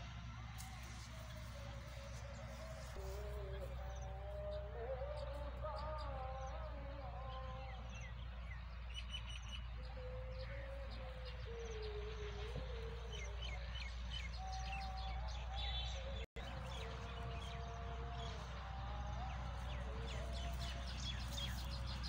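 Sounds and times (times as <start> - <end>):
steady low hum: 0.0 - 22.0
small birds chirping: 0.5 - 22.0.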